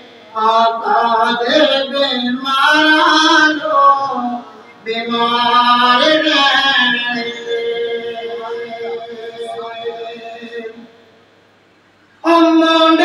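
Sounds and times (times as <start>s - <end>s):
man singing unaccompanied: 0.0s - 11.0s, 12.2s - 13.0s.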